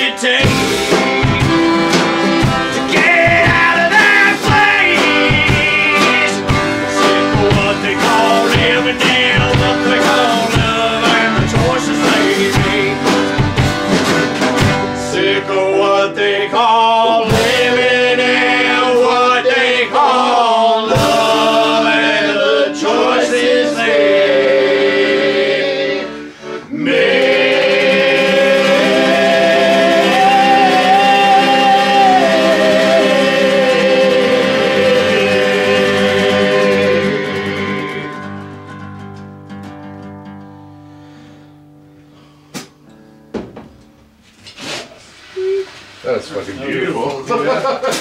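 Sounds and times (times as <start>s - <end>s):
men singing together: 0.0s - 38.5s
accordion: 0.0s - 38.9s
acoustic guitar strumming: 0.0s - 44.8s.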